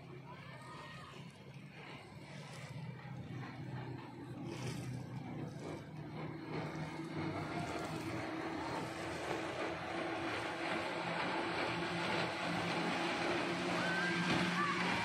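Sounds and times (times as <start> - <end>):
vehicle engine humming: 1.2 - 15.0.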